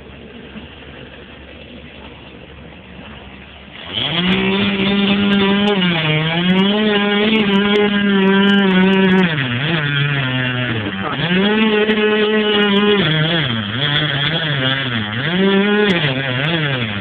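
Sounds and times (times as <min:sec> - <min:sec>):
chainsaw at high speed: 0:03.3 - 0:17.0.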